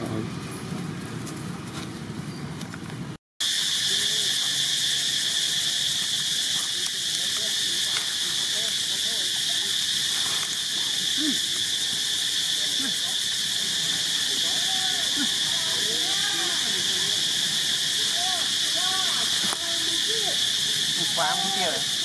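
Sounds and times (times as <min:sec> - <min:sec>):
high-pitched insect buzzing: 0:03.4 - 0:22.0.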